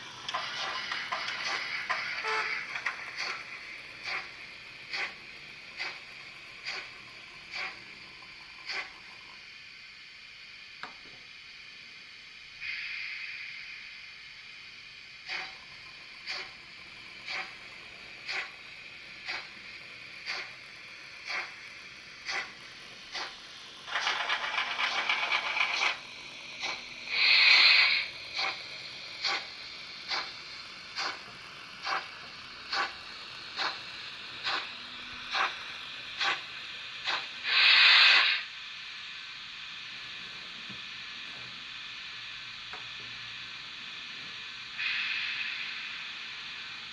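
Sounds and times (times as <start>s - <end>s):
rattling hiss: 0.0s - 10.7s, 12.4s - 46.9s
model steam locomotive chuffs: 0.0s - 46.9s.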